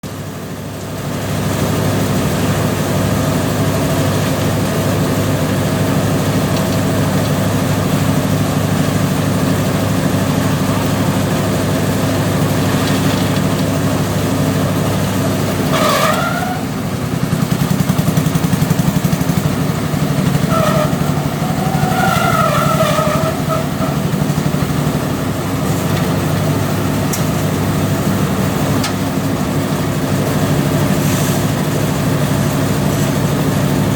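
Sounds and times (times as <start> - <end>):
machinery engine humming: 0.0 - 33.9.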